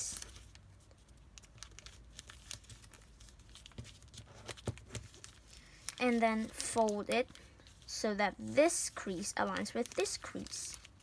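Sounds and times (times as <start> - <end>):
paper rustling and crinkling: 0.0 - 8.1, 8.7 - 11.0.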